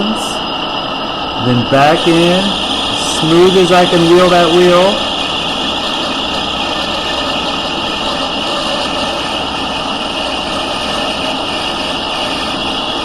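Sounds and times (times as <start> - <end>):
lathe running with high whine: 0.0 - 13.0.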